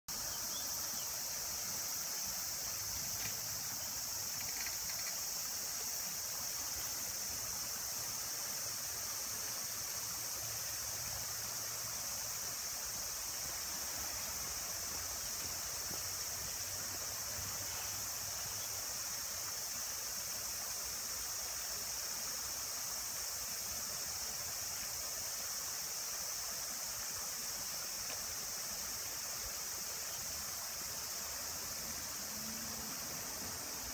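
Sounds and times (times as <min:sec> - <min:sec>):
high-pitched insect chorus: 0:00.1 - 0:33.9
stream rippling over stones: 0:00.1 - 0:33.9.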